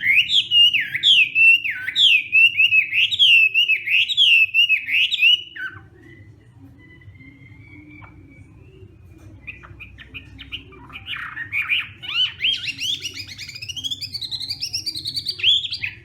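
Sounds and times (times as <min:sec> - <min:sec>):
songbird singing clear notes: 0:00.0 - 0:16.0.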